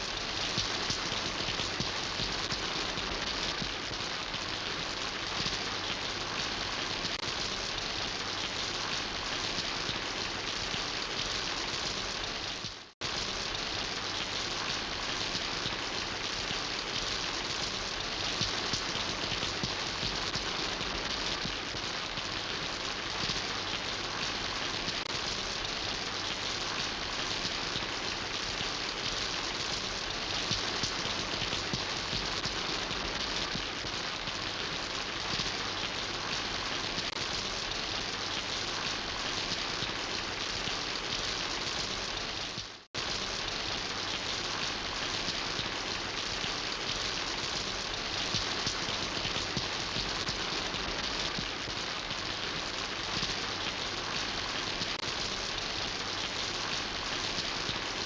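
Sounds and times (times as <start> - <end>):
dense rain pattering: 0.0 - 58.0.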